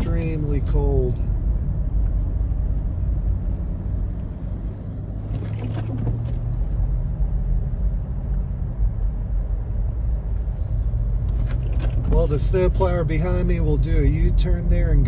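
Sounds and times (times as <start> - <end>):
car engine running: 0.0 - 15.0
road rumble: 0.0 - 15.0.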